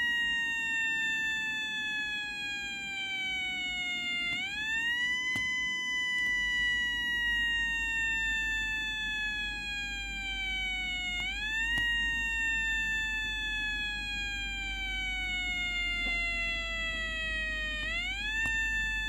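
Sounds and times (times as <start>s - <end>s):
electronic siren wailing: 0.0s - 19.0s.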